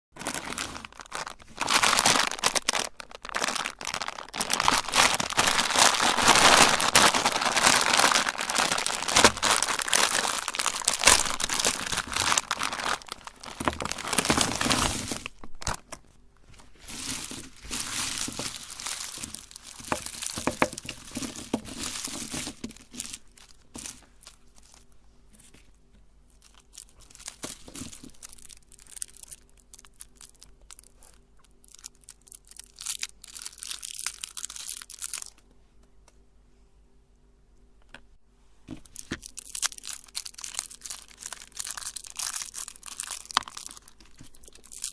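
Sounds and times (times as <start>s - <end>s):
plastic wrappers crinkling: 0.2s - 35.5s, 38.8s - 44.9s.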